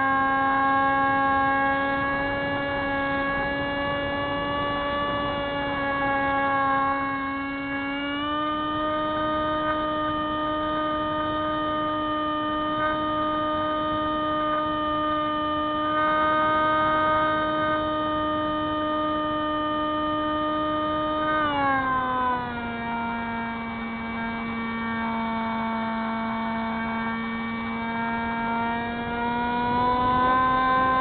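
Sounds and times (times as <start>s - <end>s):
electric motor and propeller whine: 0.0s - 31.0s.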